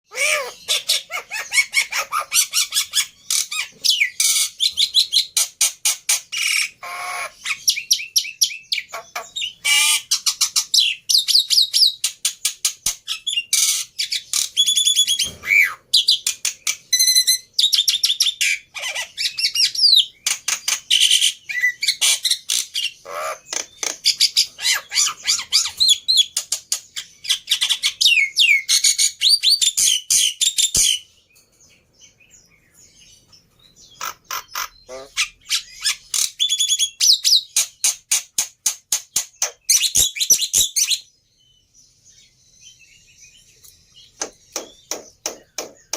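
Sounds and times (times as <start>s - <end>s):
starling singing: 0.1s - 31.1s, 32.0s - 38.4s.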